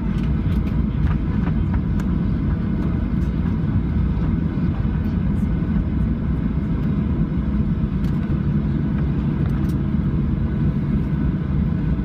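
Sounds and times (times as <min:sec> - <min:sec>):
aircraft engines low rumble: 0:00.0 - 0:12.0.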